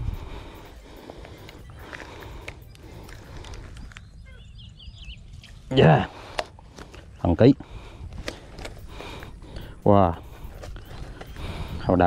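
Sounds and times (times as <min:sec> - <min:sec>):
wind rumbling on microphone: 0:00.0 - 0:06.8, 0:07.7 - 0:12.0.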